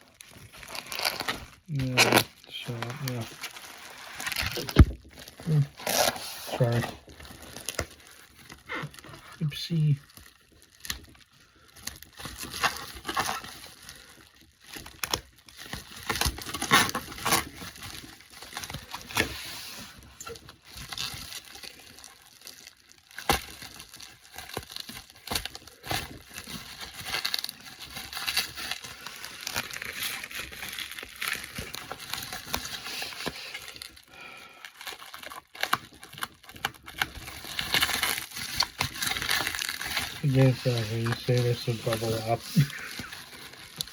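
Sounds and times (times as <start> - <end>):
packaging crinkling and rustling: 0.0 - 43.9
packaging tearing: 0.0 - 43.9.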